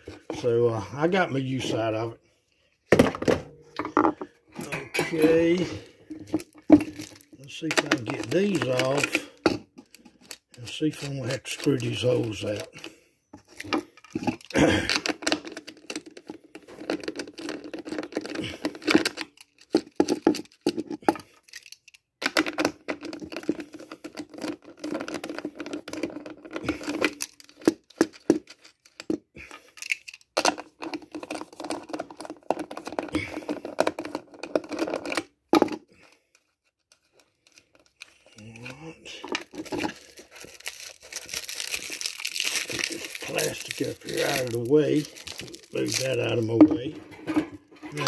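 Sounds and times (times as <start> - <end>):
tools scraping creaking and clicking: 3.6 - 48.0.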